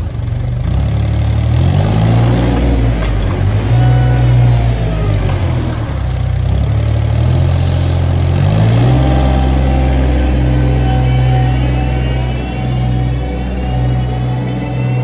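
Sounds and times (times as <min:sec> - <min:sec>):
loader engine running and revving: 0:00.0 - 0:15.0.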